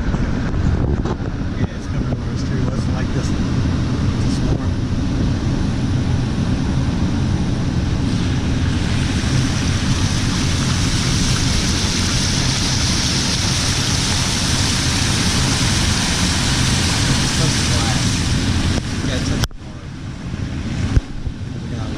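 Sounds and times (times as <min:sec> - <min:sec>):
loud rushing noise: 0:00.0 - 0:21.9
vehicle engine running: 0:00.0 - 0:21.9.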